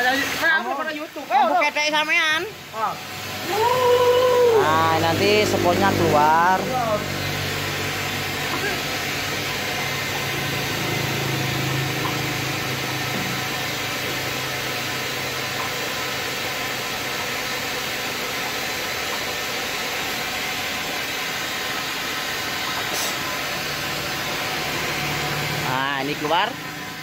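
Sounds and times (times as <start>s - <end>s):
pump humming steadily: 0.0s - 27.0s.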